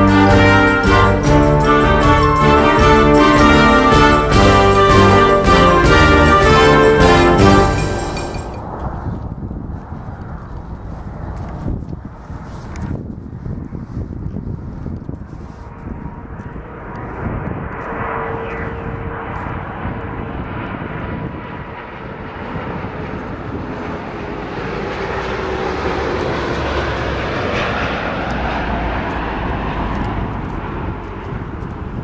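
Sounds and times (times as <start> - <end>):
jet engine whine: 0.0 - 32.0.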